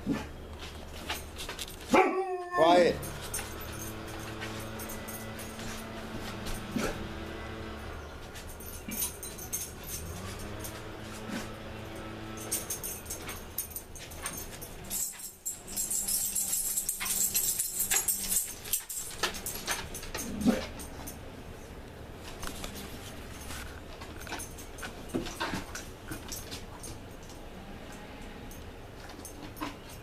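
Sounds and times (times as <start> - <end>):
collar tags jingling: 0.6 - 30.0.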